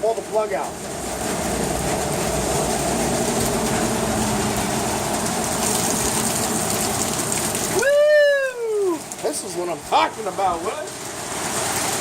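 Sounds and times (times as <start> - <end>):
low continuous rumble: 0.0 - 11.4
heavy rain pouring: 0.0 - 12.0.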